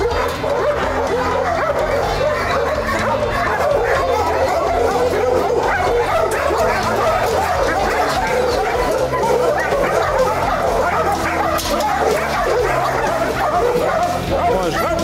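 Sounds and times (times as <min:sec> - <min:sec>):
many dogs barking: 0:00.0 - 0:15.0.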